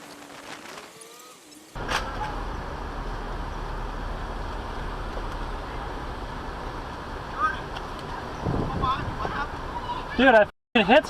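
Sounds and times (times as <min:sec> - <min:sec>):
car road and engine noise: 0:00.1 - 0:10.5.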